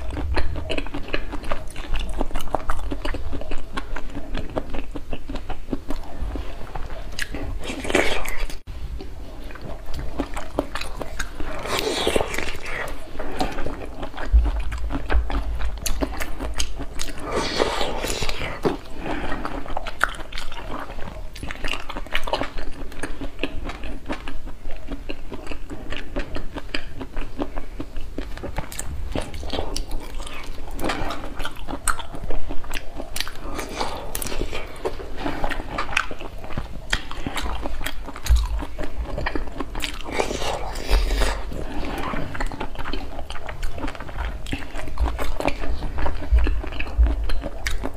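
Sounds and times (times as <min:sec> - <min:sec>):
wet chewing and lip smacks: 0:00.0 - 0:47.9.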